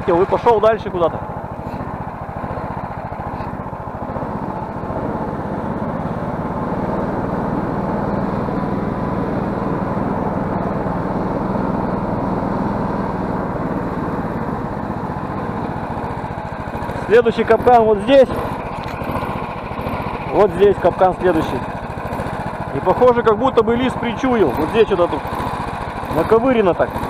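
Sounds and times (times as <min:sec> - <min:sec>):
snowmobile engine running: 0:00.0 - 0:27.0.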